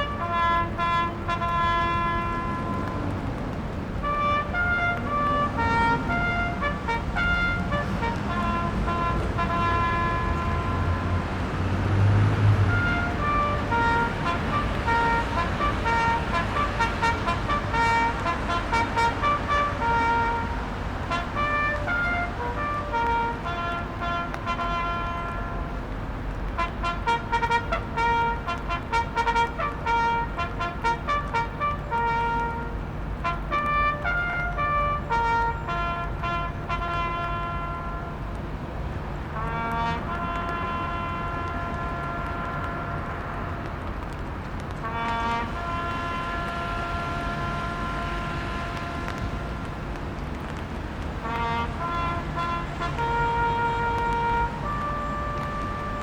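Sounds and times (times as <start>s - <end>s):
solo wind instrument tune: 0.0s - 38.5s, 39.3s - 44.0s, 44.8s - 50.0s, 51.1s - 56.0s.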